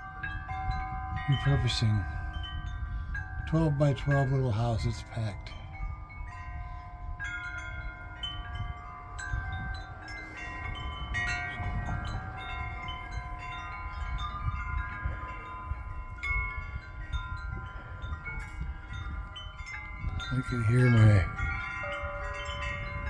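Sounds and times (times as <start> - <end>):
metal wind chimes ringing: 0.0 - 23.0
wind rumble on microphone: 0.0 - 23.0.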